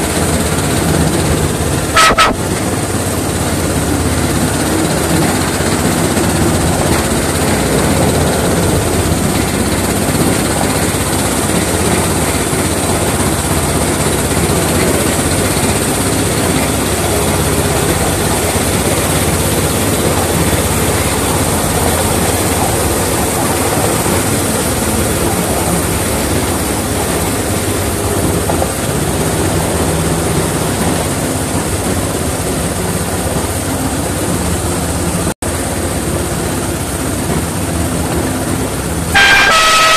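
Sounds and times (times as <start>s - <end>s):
locomotive drone on rails: 0.0s - 39.9s.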